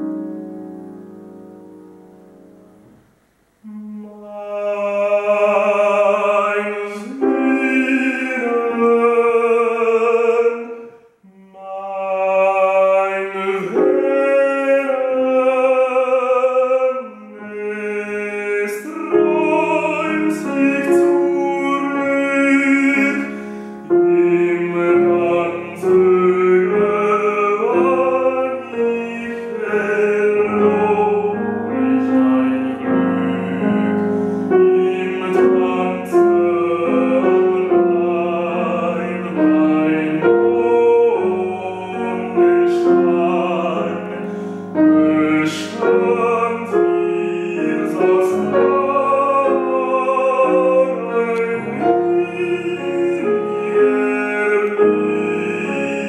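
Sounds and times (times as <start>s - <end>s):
grand piano: 0.0s - 56.0s
man singing operatically: 3.6s - 56.0s.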